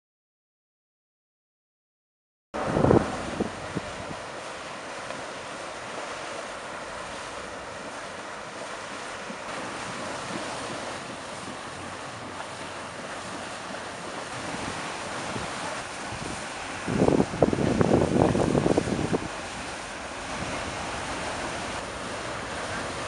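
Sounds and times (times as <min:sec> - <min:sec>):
wind and sea water rushing: 0:02.6 - 0:23.0.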